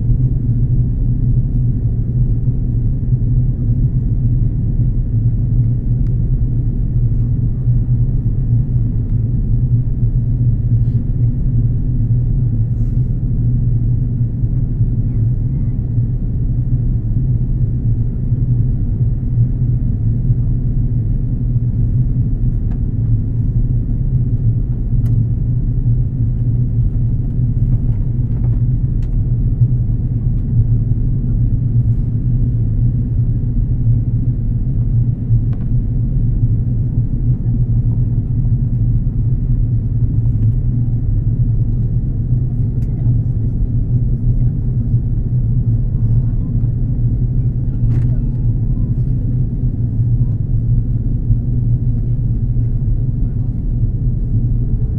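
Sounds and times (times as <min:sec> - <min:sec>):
airliner cabin rumble: 0:00.0 - 0:54.9.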